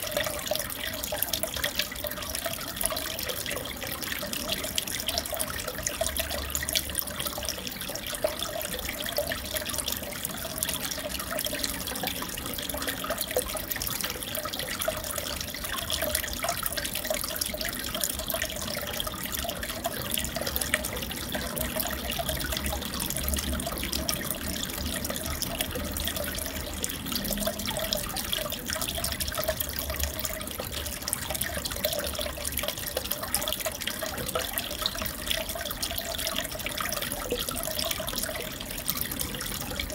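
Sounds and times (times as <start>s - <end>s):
aquarium water trickling: 0.0s - 39.9s
water drips: 0.0s - 39.9s.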